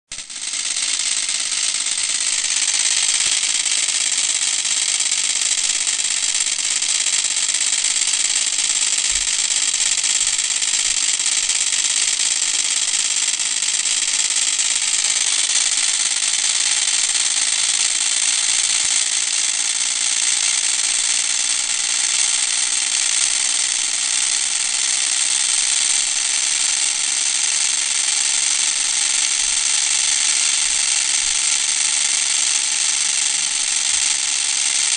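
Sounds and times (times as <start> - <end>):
small electric motor whirring: 0.1 - 34.9.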